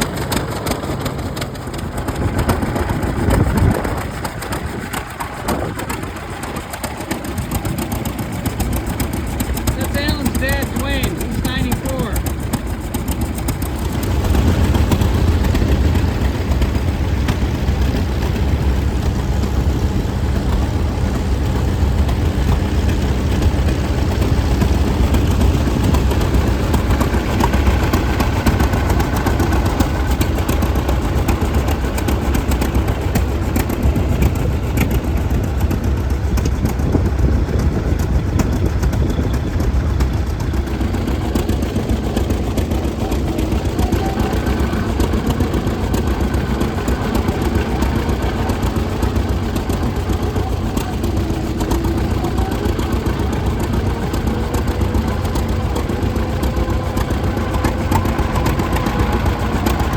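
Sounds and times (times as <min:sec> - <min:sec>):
tractor engines running: 0:00.0 - 0:59.9.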